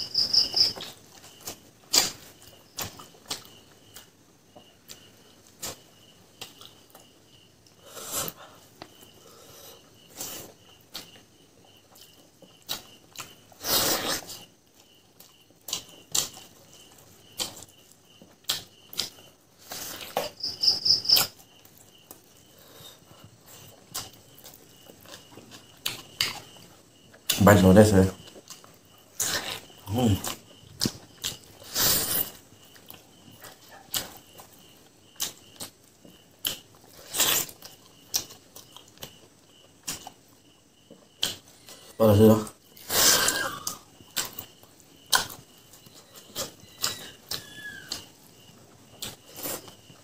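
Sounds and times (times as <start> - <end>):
cricket chirping: 0.0 - 50.0
wet chewing and lip smacks: 0.5 - 7.8, 10.2 - 20.4, 23.4 - 27.4, 28.2 - 41.8, 42.8 - 48.2, 48.9 - 49.8.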